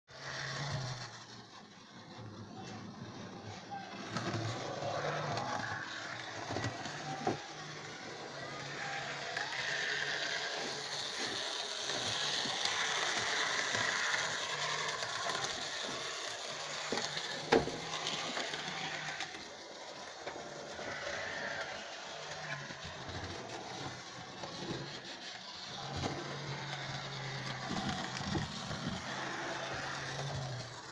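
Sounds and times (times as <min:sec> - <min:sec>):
model train motor whirring: 0:00.1 - 0:30.9.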